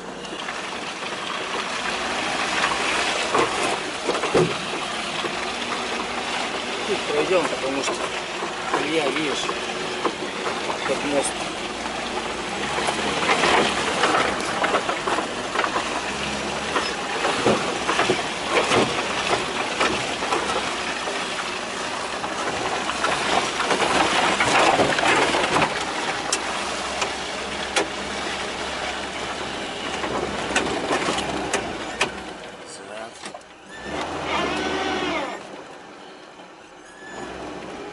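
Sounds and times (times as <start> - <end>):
car knocking and rattling: 0.0 - 36.4
car engine running low: 0.0 - 37.9
tyres on rough ground: 0.0 - 37.9.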